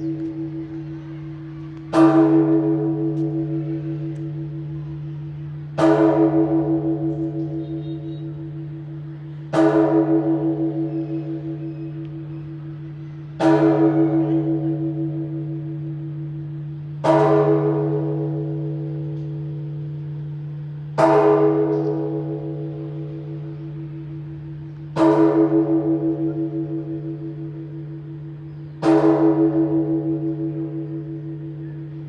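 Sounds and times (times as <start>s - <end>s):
large church bell tolling: 0.0s - 32.0s.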